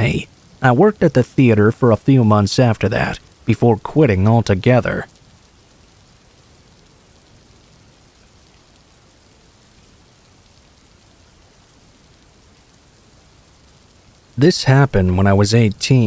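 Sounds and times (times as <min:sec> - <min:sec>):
rain hiss and patter: 0:00.0 - 0:16.0.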